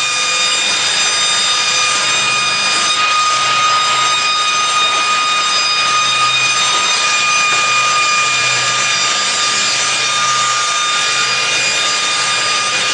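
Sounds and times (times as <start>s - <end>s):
circular saw machine running: 0.0s - 12.9s
saw blades whining: 0.0s - 12.9s.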